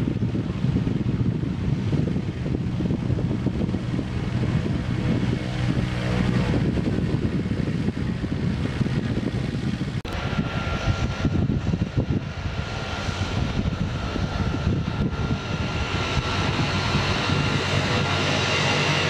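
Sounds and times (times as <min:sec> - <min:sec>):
high turbine whine: 0:00.0 - 0:19.0
propeller plane engine running: 0:00.0 - 0:19.0
turboprop plane taxiing: 0:00.0 - 0:19.0.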